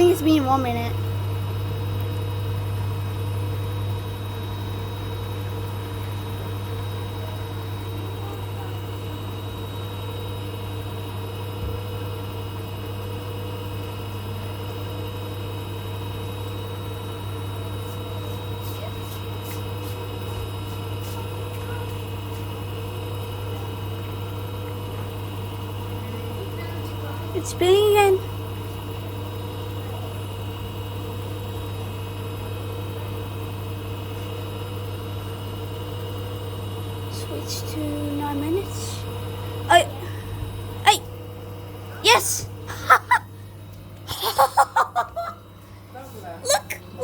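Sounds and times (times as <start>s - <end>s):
washing machine humming: 0.0s - 47.0s.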